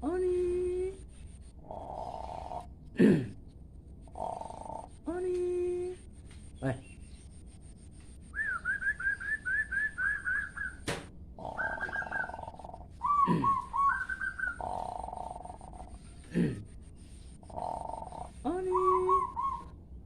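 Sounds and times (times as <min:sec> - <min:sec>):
songbird singing: 0:00.0 - 0:19.8.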